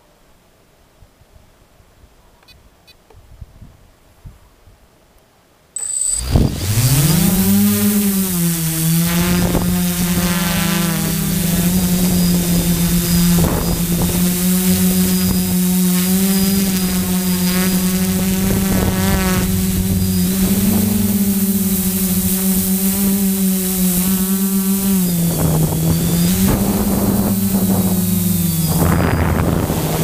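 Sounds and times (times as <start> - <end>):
quadcopter propellers buzzing: 5.8 - 30.0.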